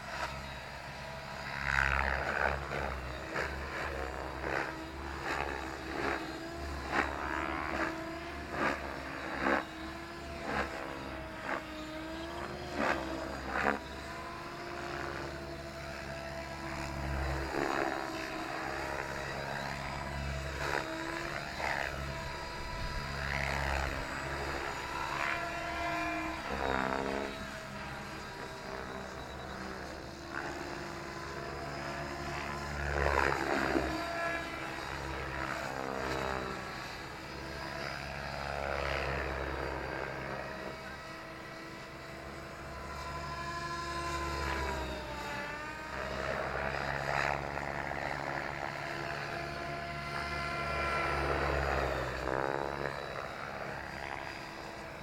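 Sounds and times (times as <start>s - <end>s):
model helicopter motor whine: 0.0s - 55.0s.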